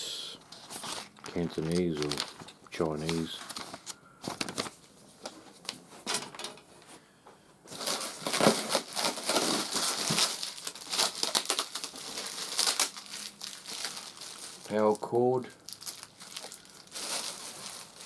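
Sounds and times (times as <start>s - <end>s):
packaging crinkling: 0.6s - 4.8s, 7.7s - 18.0s.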